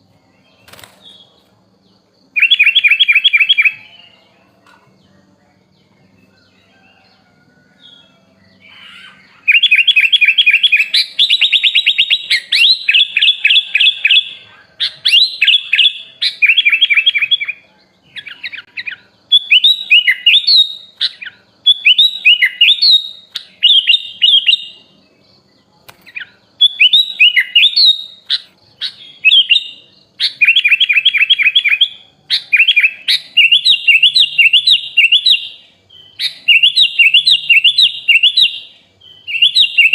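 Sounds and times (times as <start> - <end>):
bulbul singing trills and whistles: 0.0 - 39.9.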